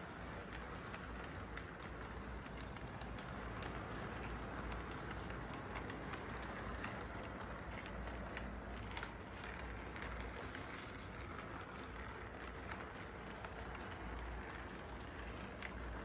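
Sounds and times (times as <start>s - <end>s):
toy train rolling on track: 0.0s - 16.0s.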